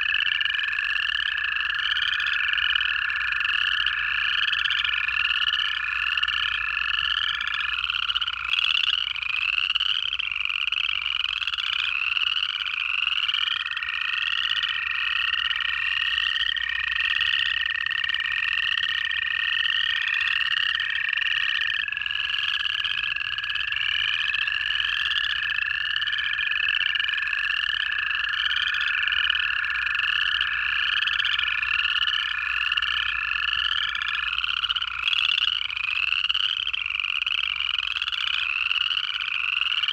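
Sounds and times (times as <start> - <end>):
frogs chorus of rising trills: 0.0 - 39.9
toads long steady trills: 0.0 - 39.9.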